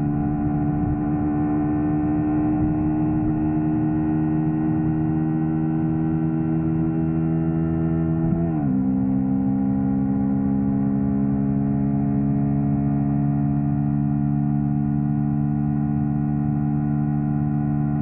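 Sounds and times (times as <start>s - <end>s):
motorcycle engine running steadily: 0.0s - 8.4s, 9.1s - 18.0s.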